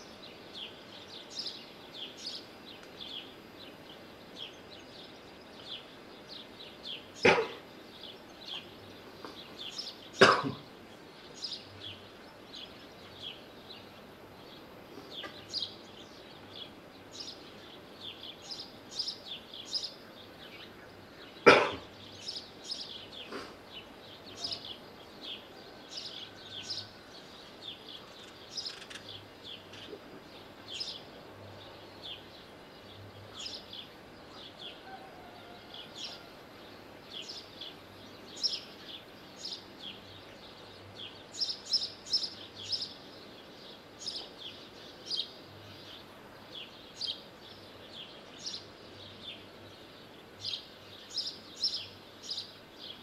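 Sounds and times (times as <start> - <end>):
faint outdoor background: 0.0 - 53.0
small birds chirping: 0.0 - 53.0.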